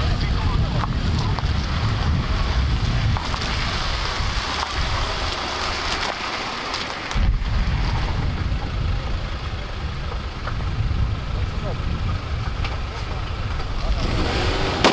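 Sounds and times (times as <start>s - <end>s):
car tyres rolling through puddles: 0.0s - 14.9s
wind rumbling on microphone: 0.0s - 14.9s.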